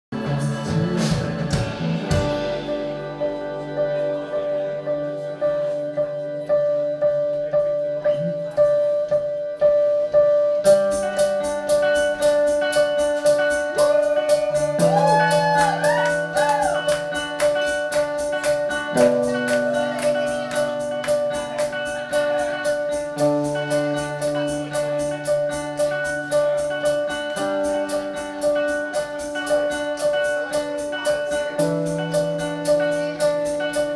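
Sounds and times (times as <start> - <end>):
live band playing: 0.1 - 33.9
gliding lead notes: 1.8 - 33.9.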